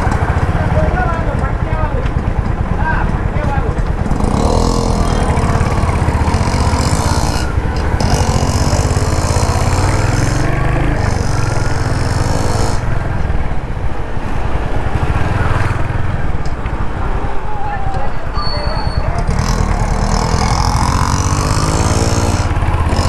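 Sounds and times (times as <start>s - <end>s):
motorcycle engine thumping: 0.0s - 18.1s, 19.0s - 23.0s.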